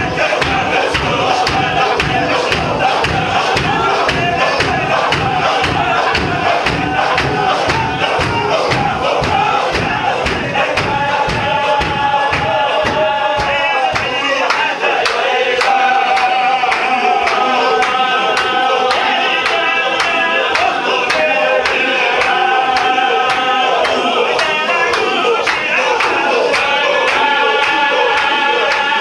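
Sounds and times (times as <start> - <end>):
men chanting in unison: 0.0 - 29.0
sharp steady beat: 0.0 - 29.0.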